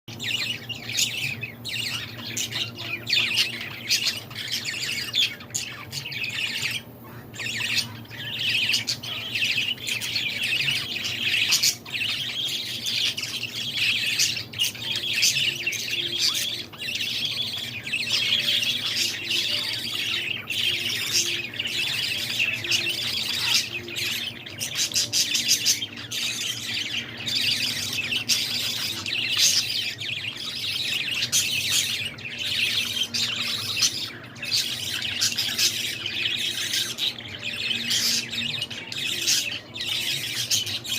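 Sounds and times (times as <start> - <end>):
baby birds chirping: 0.1 - 40.9.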